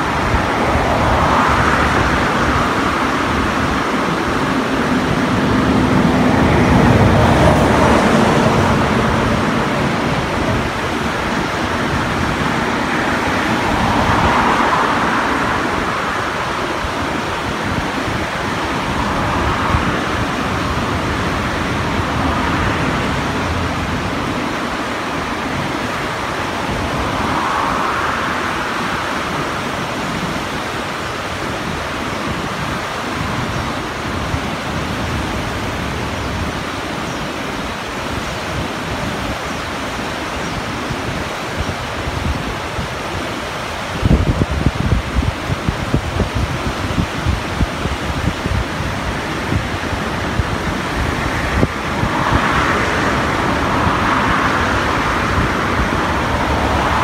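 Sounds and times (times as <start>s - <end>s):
vehicle hum: 0.0s - 42.8s, 44.0s - 57.0s
passing road traffic: 0.0s - 57.0s
river rushing: 0.0s - 57.0s.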